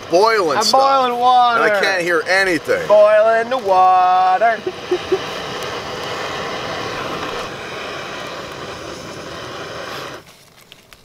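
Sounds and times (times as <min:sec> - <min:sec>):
camp stove burner roaring: 0:00.0 - 0:11.0.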